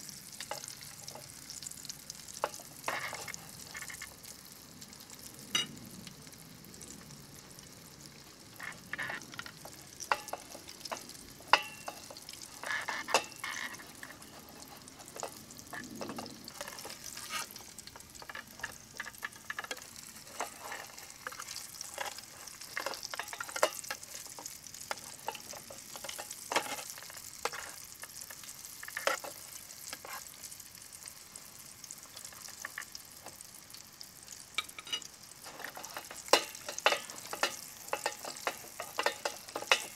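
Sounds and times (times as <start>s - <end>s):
frying oil popping: 0.0s - 39.9s
oil sizzling: 0.0s - 39.9s.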